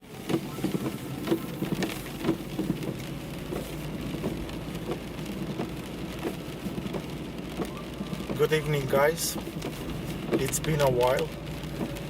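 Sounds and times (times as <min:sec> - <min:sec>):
rain pattering on a car: 0:00.0 - 0:12.0.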